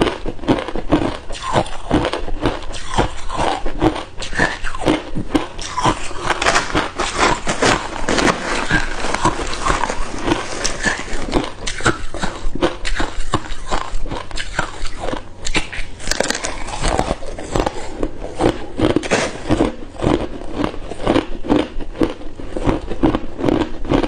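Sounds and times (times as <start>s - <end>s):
ice cubes being chewed: 0.0s - 24.0s.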